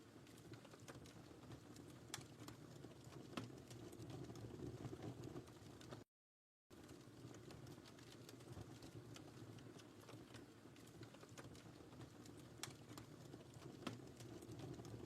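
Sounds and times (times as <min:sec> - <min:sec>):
wood fire crackling: 0:00.0 - 0:06.0, 0:06.7 - 0:15.0.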